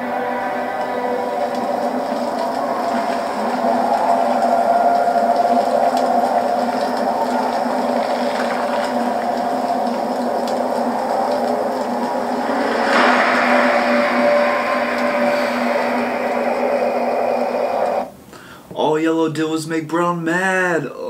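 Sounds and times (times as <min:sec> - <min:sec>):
drone with held tones: 0:00.0 - 0:18.2.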